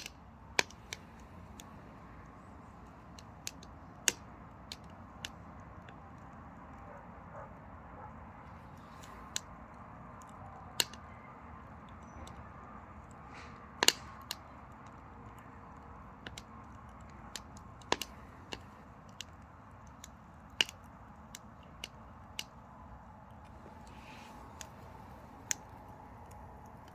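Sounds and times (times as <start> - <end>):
firewood pops and crackles: 0.0 - 6.3, 8.6 - 26.9
low rush of fire: 0.0 - 26.9.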